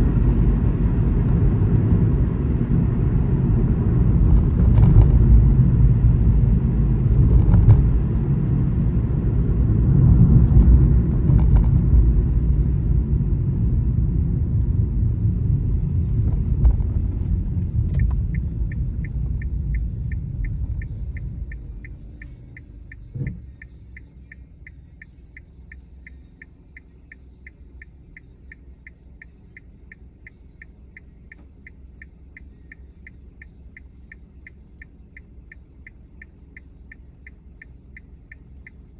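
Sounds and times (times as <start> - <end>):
car road rumble: 0.0 - 38.9
turn signal ticking: 0.0 - 38.9.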